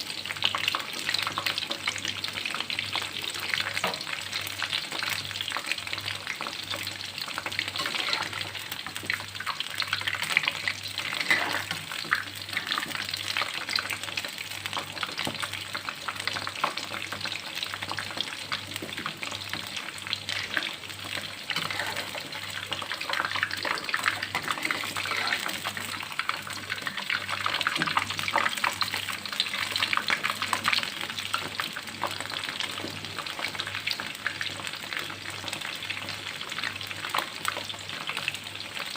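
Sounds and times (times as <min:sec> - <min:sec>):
shrimp deep-frying in oil: 0:00.0 - 0:38.9.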